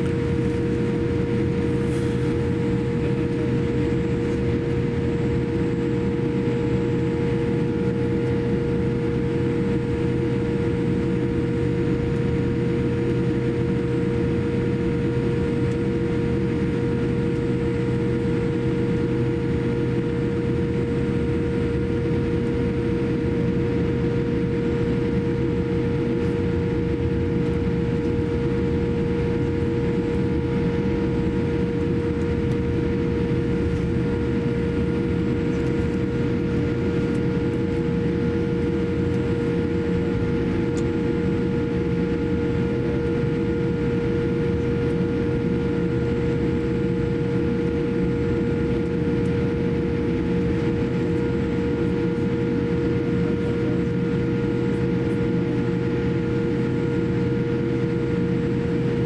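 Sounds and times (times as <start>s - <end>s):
aircraft cabin rumble: 0.0s - 59.0s
constant humming tone: 0.0s - 59.0s.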